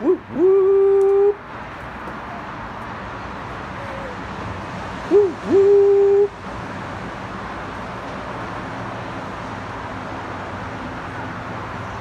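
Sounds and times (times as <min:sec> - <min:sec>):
faint low engine hum: 0:00.0 - 0:12.0
road traffic rush: 0:00.0 - 0:12.0.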